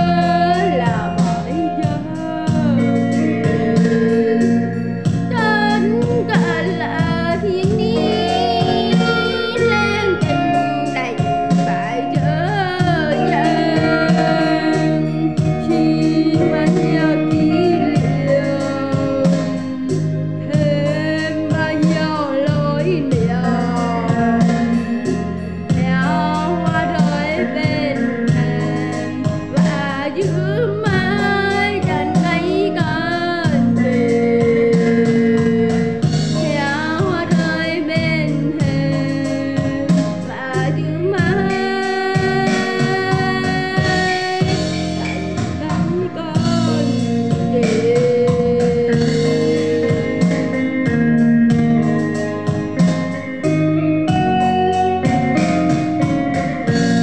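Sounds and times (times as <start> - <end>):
instrumental backing: 0.0 - 57.0
woman singing a slow ballad: 0.0 - 57.0.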